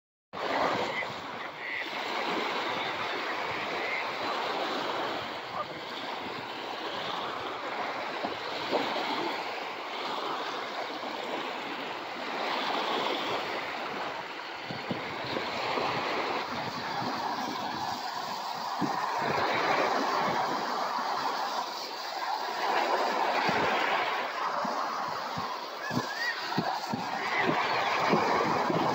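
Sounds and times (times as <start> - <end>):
small waves lapping on sand: 0.4 - 28.9.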